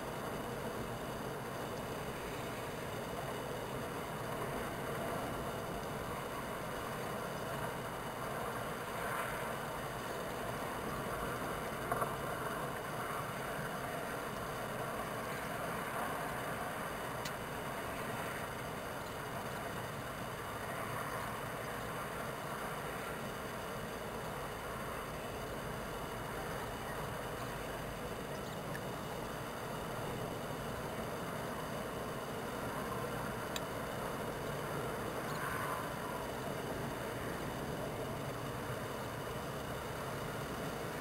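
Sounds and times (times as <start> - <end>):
rushing background noise: 0.0 - 41.0.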